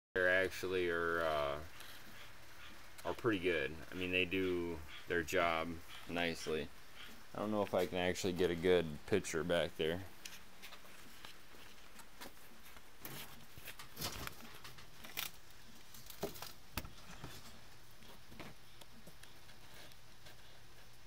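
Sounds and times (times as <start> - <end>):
faint steady background noise: 0.2 - 21.0.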